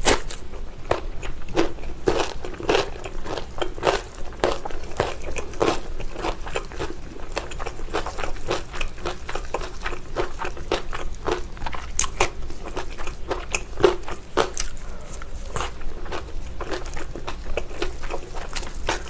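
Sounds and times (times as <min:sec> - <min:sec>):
biting and chewing meat: 0:00.0 - 0:19.0.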